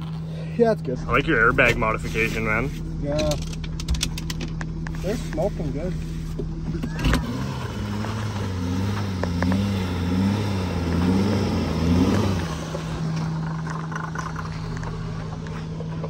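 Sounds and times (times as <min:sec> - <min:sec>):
car engine labouring: 0:00.0 - 0:16.0
gravel and tyre noise: 0:00.0 - 0:16.0.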